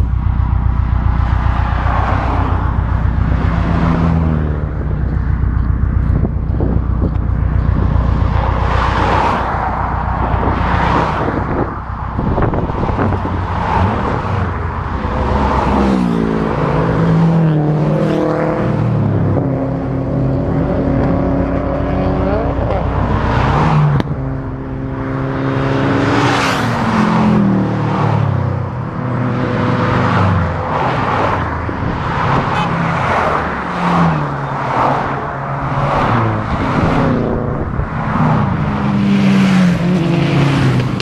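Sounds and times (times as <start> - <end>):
cars passing on road: 0.0 - 41.0.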